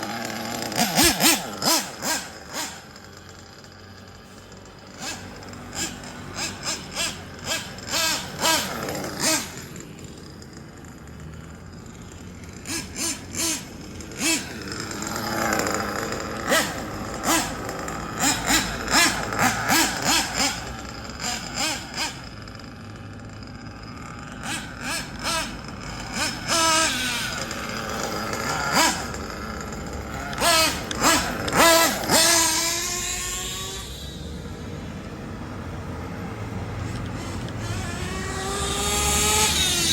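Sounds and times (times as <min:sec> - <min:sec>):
rc car engine revving: 0:00.0 - 0:39.9.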